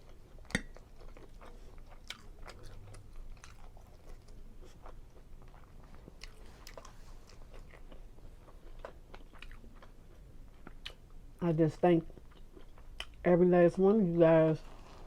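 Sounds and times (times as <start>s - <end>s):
person chewing food: 0.0s - 11.2s, 12.1s - 13.2s.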